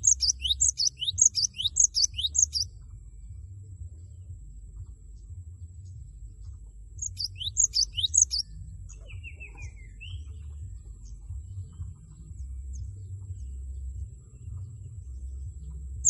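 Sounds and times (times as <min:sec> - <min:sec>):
bird chirping: 0:00.0 - 0:16.0
low steady rumble: 0:00.0 - 0:16.0.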